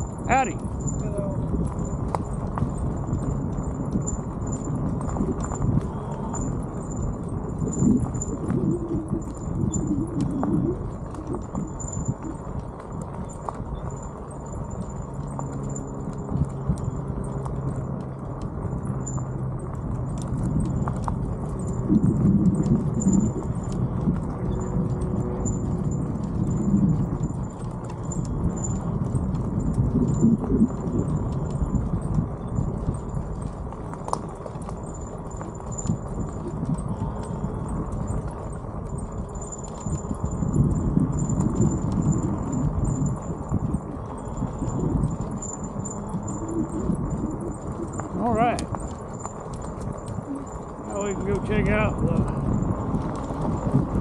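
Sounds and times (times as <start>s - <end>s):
bicycle tyres rumbling on rough road: 0.0s - 54.0s
wind buffeting camera: 0.0s - 54.0s.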